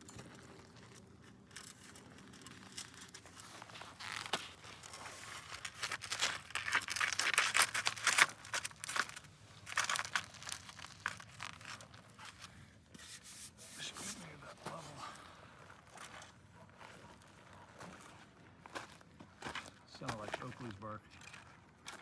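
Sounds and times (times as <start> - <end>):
scratchy crinkling and rubbing: 0.1 - 20.7.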